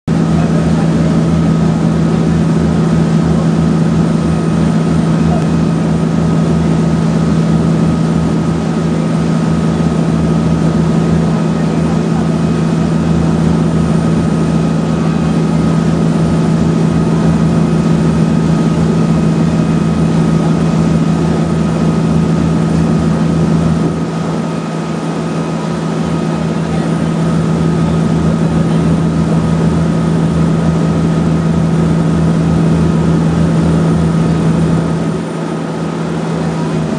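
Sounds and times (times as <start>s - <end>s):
boat engine droning: 0.1s - 36.9s.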